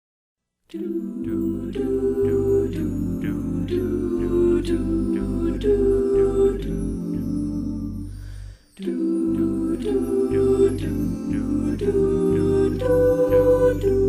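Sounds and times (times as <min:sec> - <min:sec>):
a cappella group singing chords: 0:00.7 - 0:14.0.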